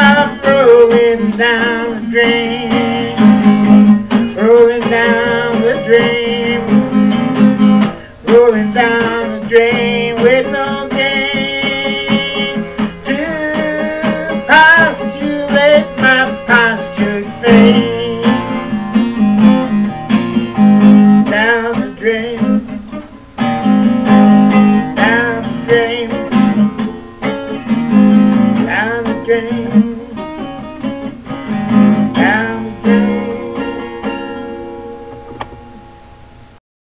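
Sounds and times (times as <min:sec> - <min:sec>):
acoustic guitar picked and strummed: 0:00.0 - 0:36.6.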